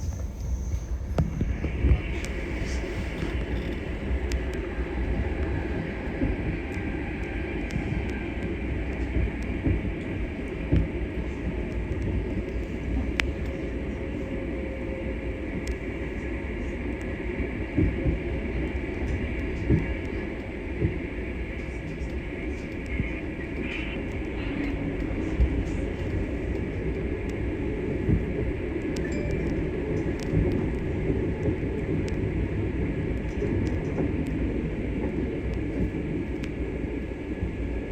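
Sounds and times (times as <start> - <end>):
train rumbling on track: 0.0 - 37.9.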